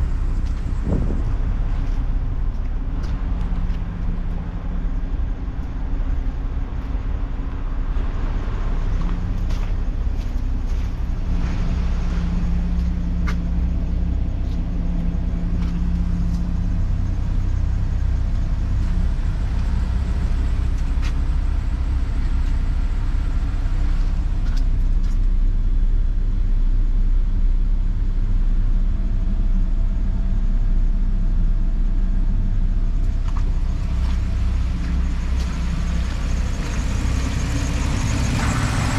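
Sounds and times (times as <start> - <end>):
pickup engine idling: 0.0 - 38.9.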